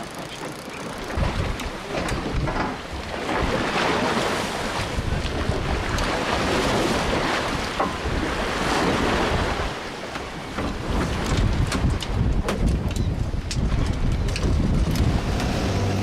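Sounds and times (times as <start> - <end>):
sea waves washing: 0.0 - 11.9, 14.9 - 16.0
wind buffeting microphone: 1.0 - 16.0.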